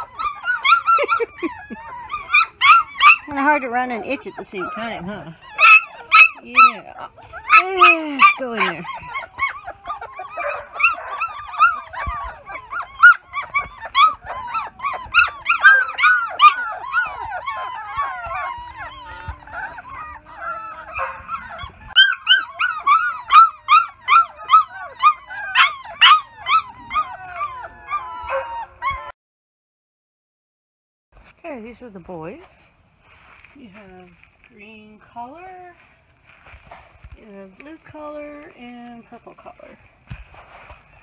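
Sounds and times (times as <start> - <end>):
puppies whining and yelping: 0.0 - 29.2, 36.6 - 41.0.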